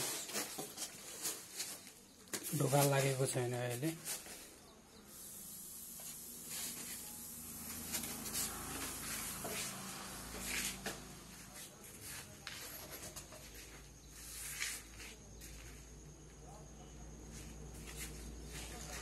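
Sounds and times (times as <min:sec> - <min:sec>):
rustling and scraping: 0:00.0 - 0:04.6, 0:06.4 - 0:16.0, 0:17.2 - 0:19.0.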